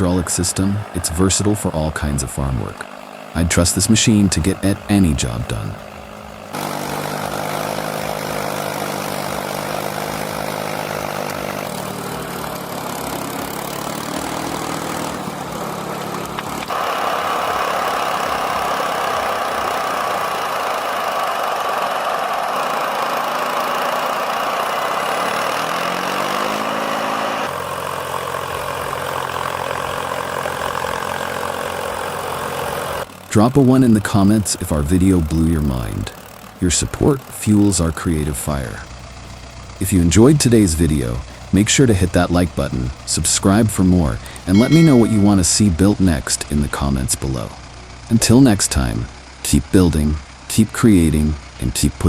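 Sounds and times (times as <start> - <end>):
harsh machine noise: 0.0 - 52.0
machinery engine hum: 0.0 - 52.0.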